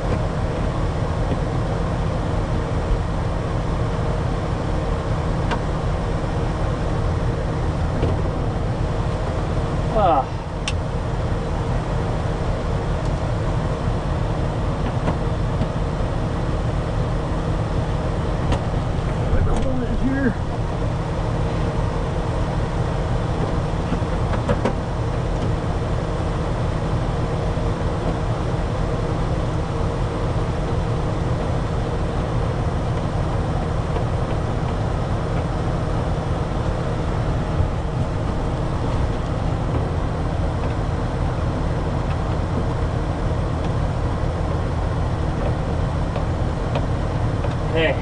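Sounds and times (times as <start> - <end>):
tractor engine droning: 0.0 - 48.0.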